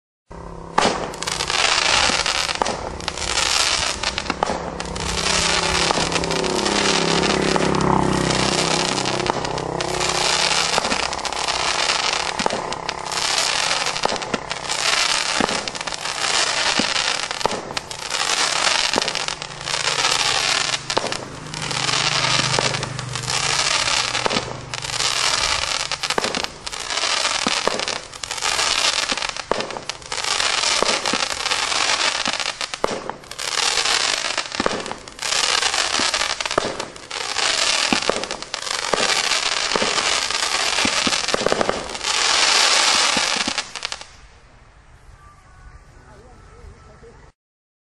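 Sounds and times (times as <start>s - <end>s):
firework shots launching: 0.3s - 44.2s
fizzing firework crackle: 0.4s - 45.0s.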